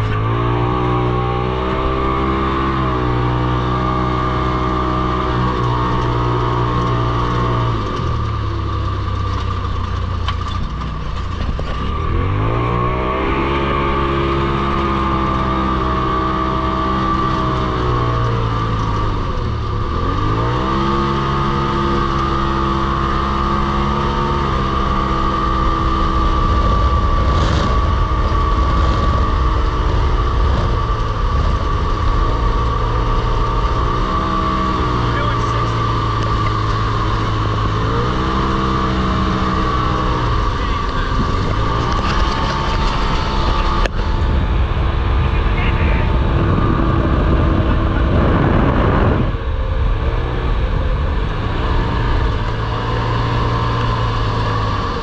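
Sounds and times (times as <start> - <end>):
steady high whine: 0.0 - 55.0
vehicle engine revving: 0.0 - 55.0.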